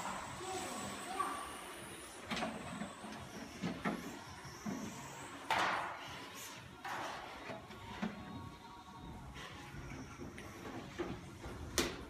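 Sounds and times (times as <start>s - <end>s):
faint high motor whine: 0.0s - 11.5s.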